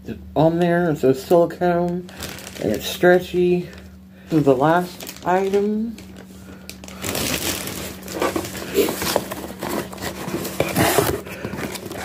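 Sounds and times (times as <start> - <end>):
plastic mailer bag crinkling: 1.8 - 12.0.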